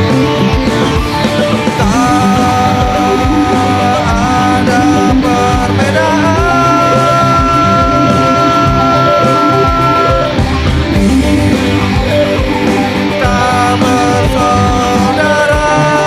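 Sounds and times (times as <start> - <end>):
high held guitar note: 0.0 - 16.0
rock band playing: 0.0 - 16.0.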